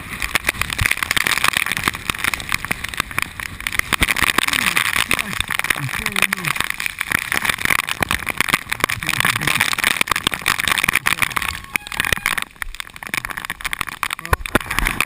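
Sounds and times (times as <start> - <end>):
heavy rain on camera housing: 0.0 - 15.0.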